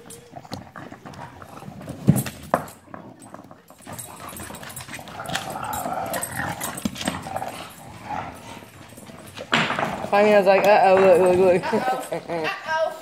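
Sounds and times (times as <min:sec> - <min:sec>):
dog play noises: 0:00.0 - 0:13.0.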